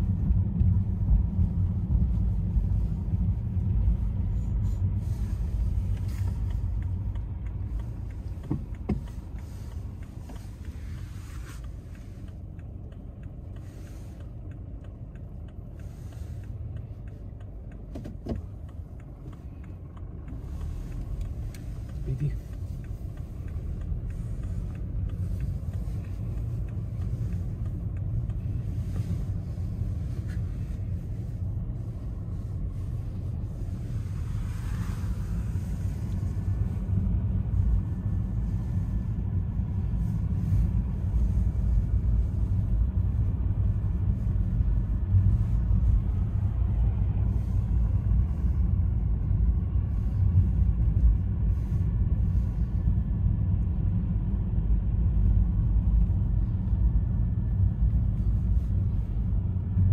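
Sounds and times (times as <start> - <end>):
road and engine rumble in car: 0.0 - 59.9.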